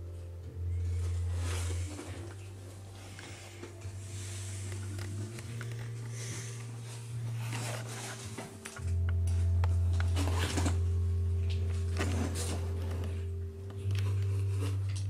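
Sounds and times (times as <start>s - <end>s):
low hum: 0.0s - 15.0s
cardboard and paper rustling: 0.8s - 15.0s.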